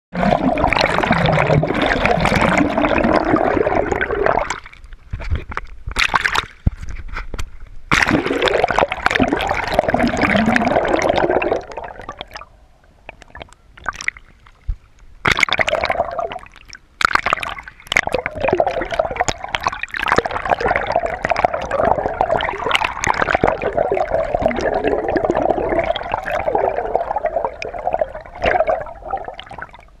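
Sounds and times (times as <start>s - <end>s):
water sloshing underwater: 0.1s - 30.0s.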